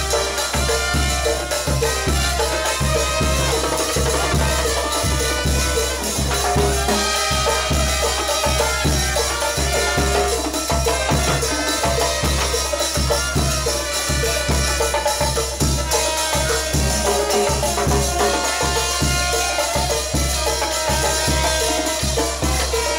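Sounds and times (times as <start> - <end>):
dance band playing latin music: 0.0 - 22.9.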